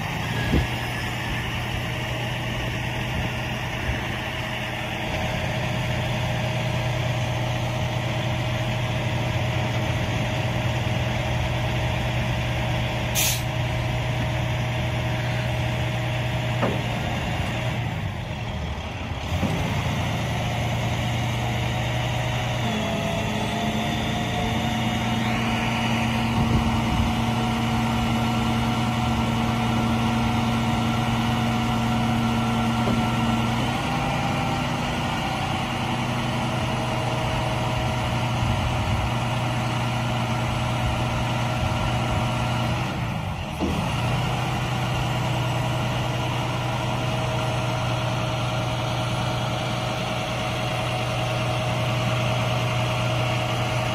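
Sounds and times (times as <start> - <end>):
hydraulic whine: 0.0 - 53.9
truck engine running: 0.0 - 53.9.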